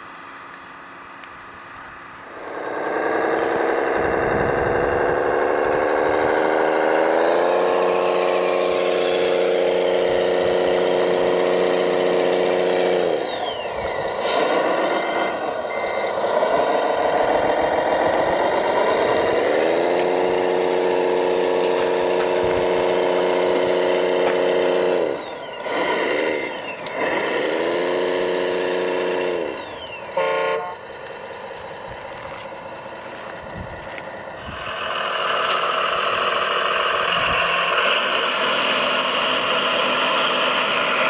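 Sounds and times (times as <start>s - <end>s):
model truck motor whining: 0.0s - 41.0s.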